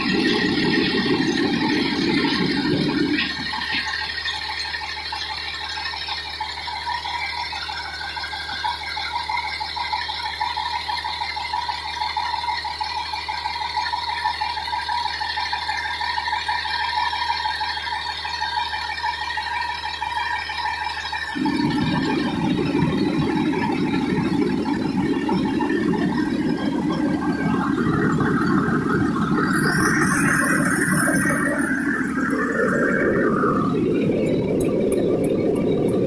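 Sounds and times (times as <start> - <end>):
continuous rattle: 0.0 - 36.0
fire engine idling: 0.0 - 36.0.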